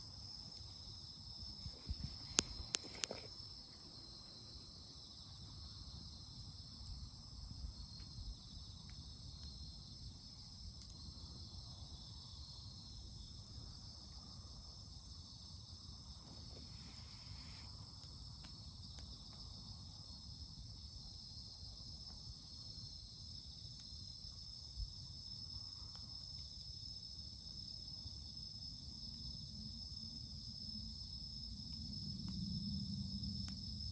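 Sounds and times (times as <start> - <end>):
insect chorus chirring: 0.0 - 33.9
campfire crackling and popping: 0.2 - 27.4.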